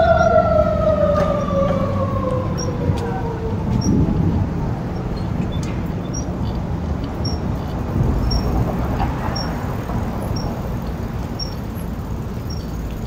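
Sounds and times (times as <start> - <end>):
wind and tyre rumble: 0.0 - 13.0.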